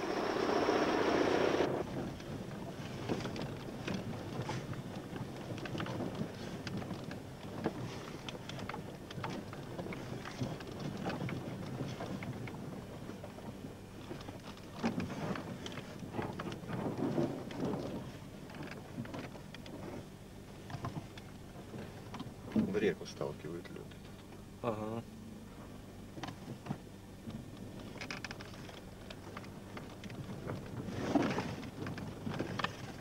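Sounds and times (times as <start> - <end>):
car cabin low rumble: 0.0 - 33.0.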